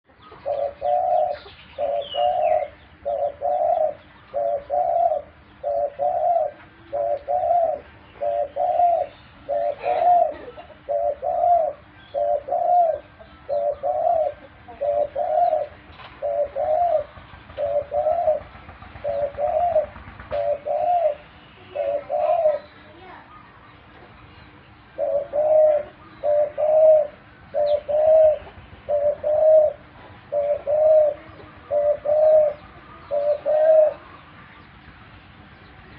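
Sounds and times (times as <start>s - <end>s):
dove cooing: 0.1s - 23.8s, 24.8s - 34.7s.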